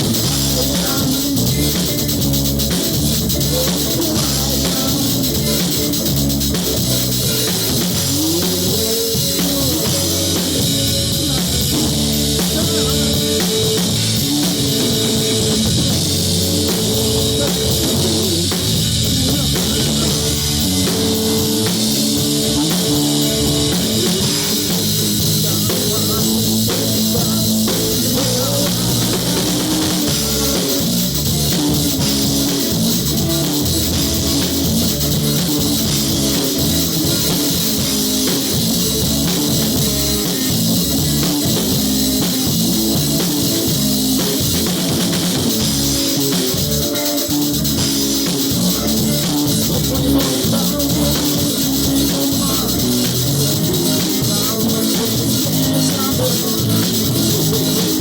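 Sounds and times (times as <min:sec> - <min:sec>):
loud rock music: 0:00.0 - 0:58.0.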